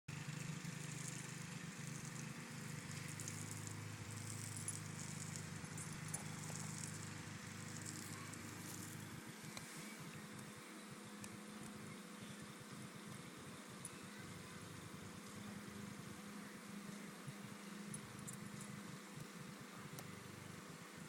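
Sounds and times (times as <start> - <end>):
low hum: 0.1 - 21.0.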